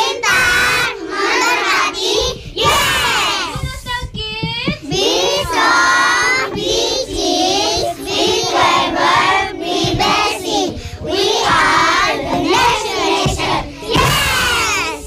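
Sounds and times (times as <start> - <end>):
children singing together: 0.0 - 3.7, 4.8 - 15.0.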